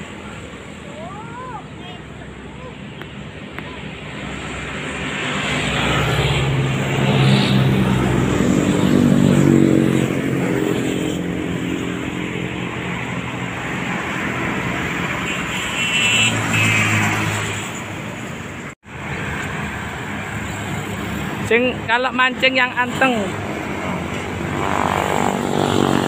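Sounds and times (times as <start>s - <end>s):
vehicles passing on highway: 0.0s - 26.0s.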